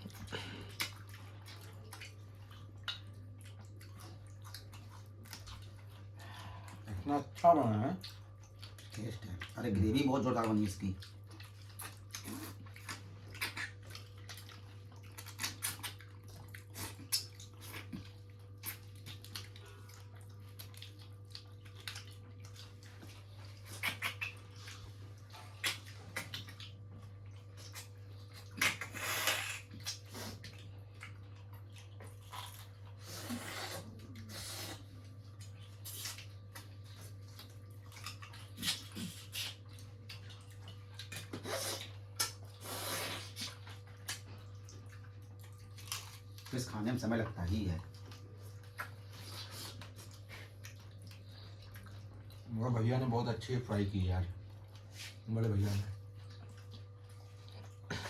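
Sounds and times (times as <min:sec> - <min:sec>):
chewing and lip-smacking: 0:00.0 - 0:58.0.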